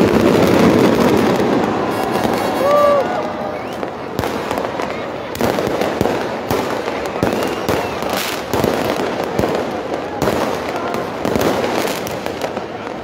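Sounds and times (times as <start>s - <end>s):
fireworks bursting: 0.0s - 13.0s
large crowd noise: 0.0s - 13.0s.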